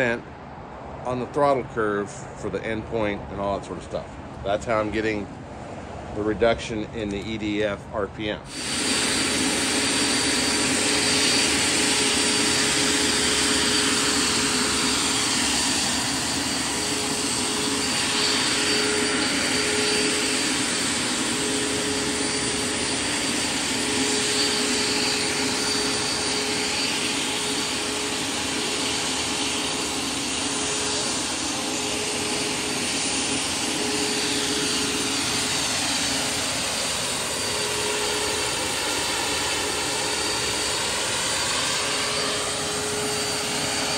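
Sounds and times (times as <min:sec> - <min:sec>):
high turbine whine: 0:00.0 - 0:43.9
rotor and ducted fan rushing: 0:00.0 - 0:43.9.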